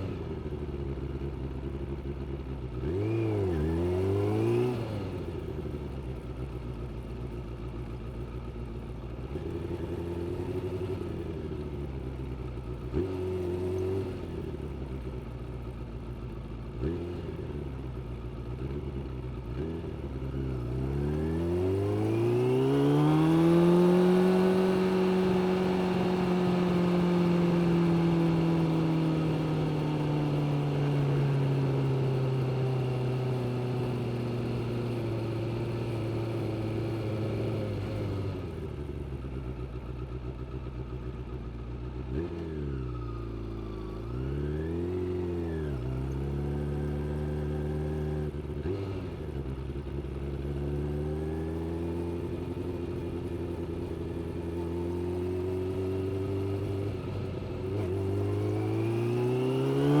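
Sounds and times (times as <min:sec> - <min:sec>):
motorcycle engine revving: 0:00.0 - 0:08.2, 0:09.1 - 1:00.0.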